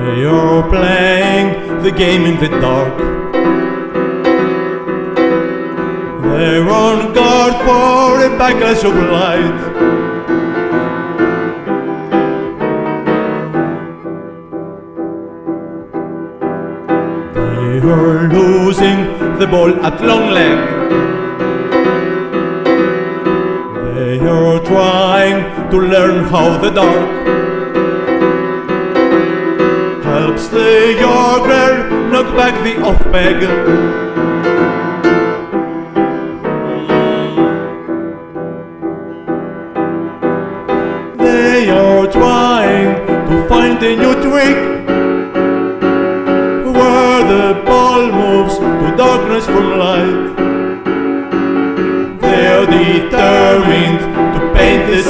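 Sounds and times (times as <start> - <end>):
piano playing: 0.0 - 55.0.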